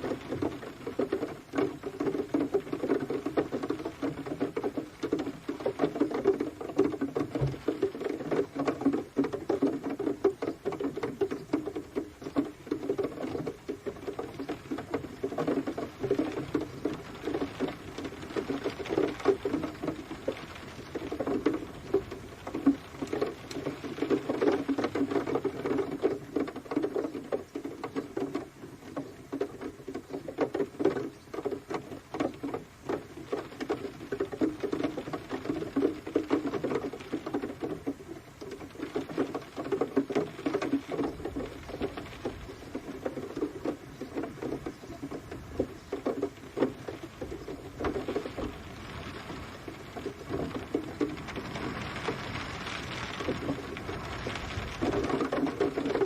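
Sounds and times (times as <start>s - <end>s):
rain drops ticking on a surface: 0.0s - 56.0s.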